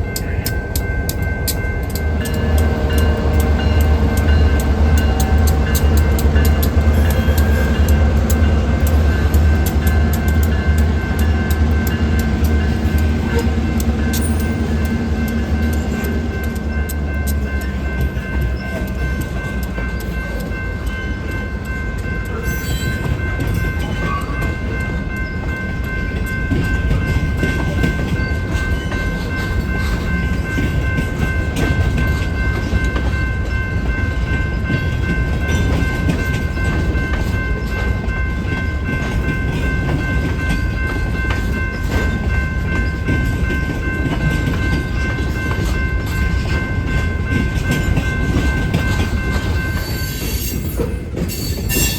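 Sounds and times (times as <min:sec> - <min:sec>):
train rumbling with wheel clatter: 0:00.0 - 0:51.9.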